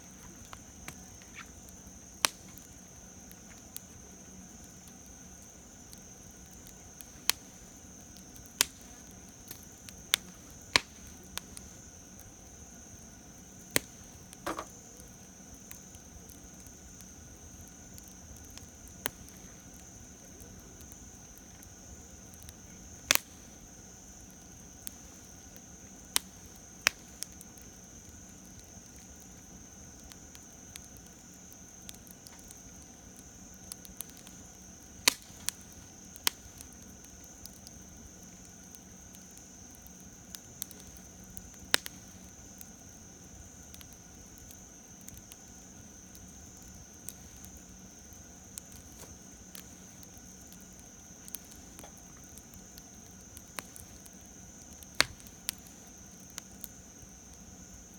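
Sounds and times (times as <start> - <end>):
campfire pops and crackles: 0.0 - 57.9
high insect drone: 0.0 - 57.9.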